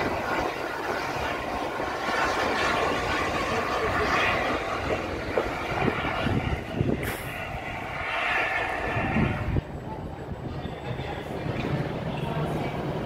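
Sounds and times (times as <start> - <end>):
steam train rumbling past: 0.0 - 13.0.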